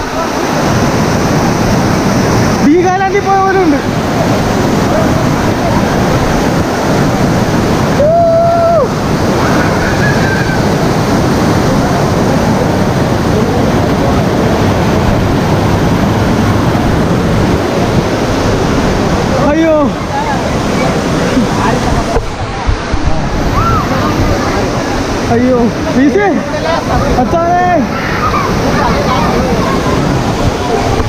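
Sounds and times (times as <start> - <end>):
waterfall rushing: 0.0 - 31.0
wind buffeting microphone: 0.0 - 31.0.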